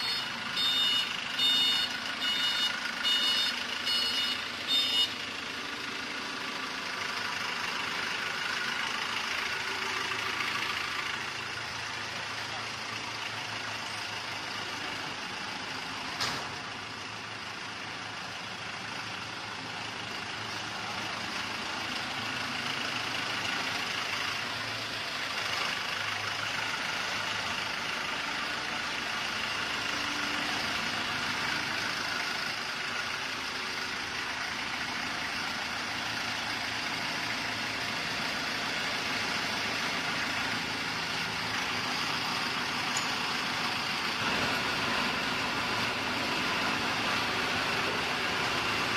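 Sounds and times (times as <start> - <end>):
diesel generator running: 0.0 - 48.9.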